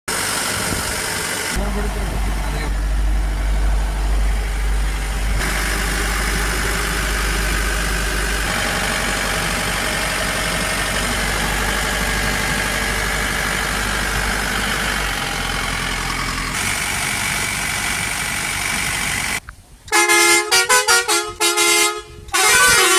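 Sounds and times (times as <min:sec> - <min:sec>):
pickup engine idling: 0:00.1 - 0:19.5.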